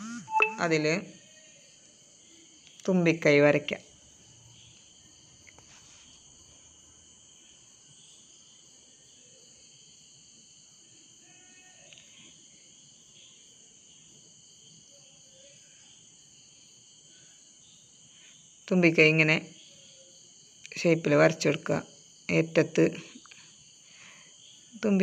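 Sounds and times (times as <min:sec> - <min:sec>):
faint high-pitched hiss: 0:00.0 - 0:25.0.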